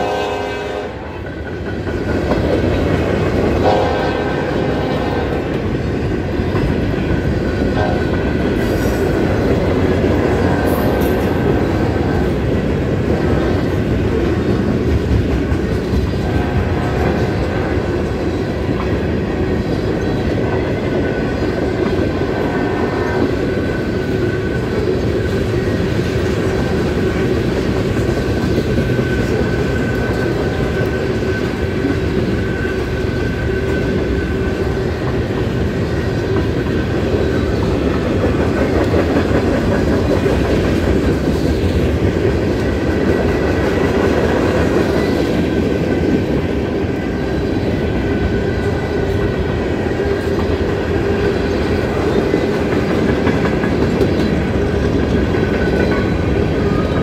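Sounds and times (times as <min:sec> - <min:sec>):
freight train rolling past: 0:00.0 - 0:57.0
wheels clacking over rail joints: 0:00.0 - 0:57.0.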